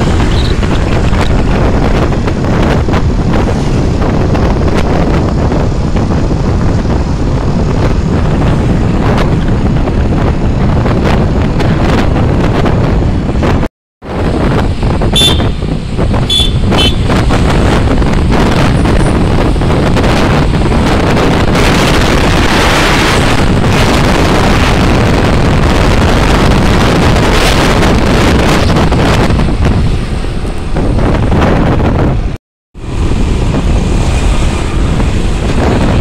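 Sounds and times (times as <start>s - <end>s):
motorcycle engine and road noise: 0.0s - 36.0s
wind buffeting microphone: 0.0s - 36.0s.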